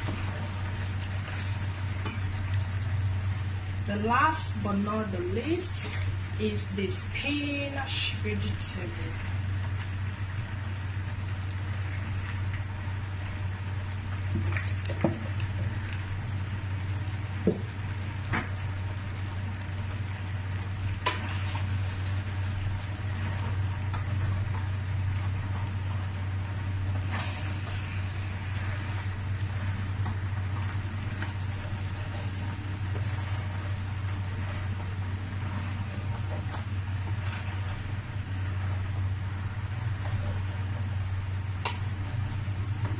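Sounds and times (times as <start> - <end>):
porridge cooking in a pot: 0.0 - 42.9
steady low hum: 0.0 - 42.9.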